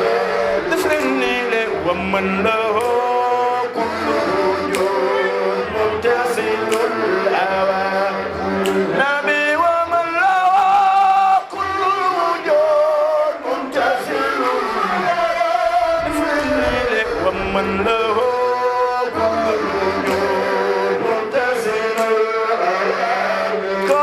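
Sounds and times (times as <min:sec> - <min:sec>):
men singing through microphones: 0:00.0 - 0:24.0.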